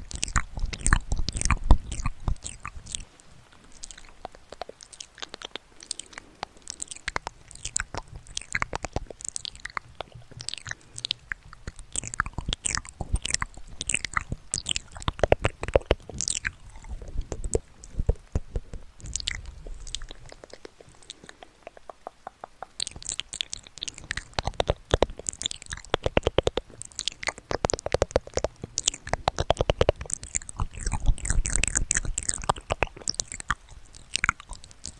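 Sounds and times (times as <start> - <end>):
rapid irregular clicks and crackles: 0.0 - 34.9.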